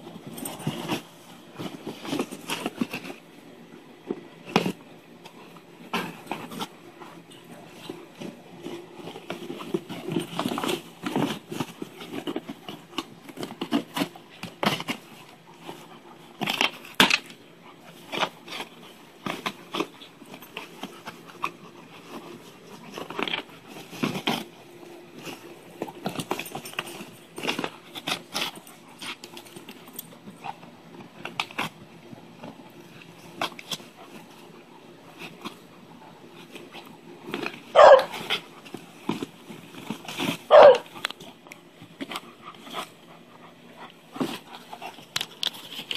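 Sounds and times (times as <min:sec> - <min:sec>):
dog ripping cardboard: 0:00.3 - 0:03.2, 0:07.8 - 0:29.8, 0:30.4 - 0:35.6, 0:36.3 - 0:43.0.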